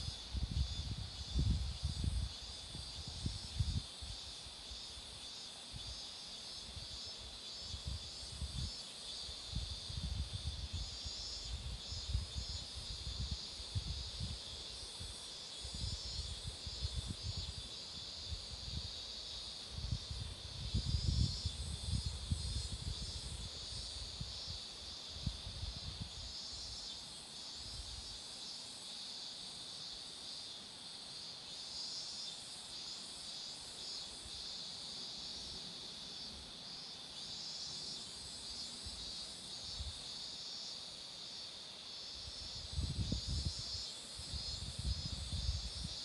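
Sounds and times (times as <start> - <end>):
cicadas singing: 0.0 - 46.0.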